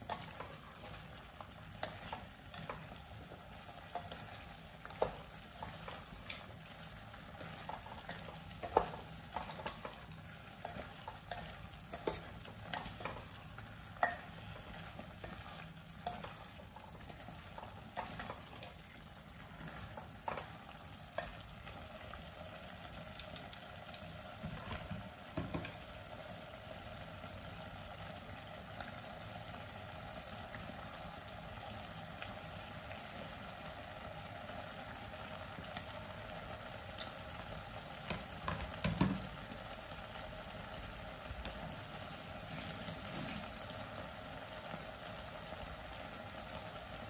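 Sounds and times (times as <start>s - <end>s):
food sizzling in a pot: 0.0s - 47.0s.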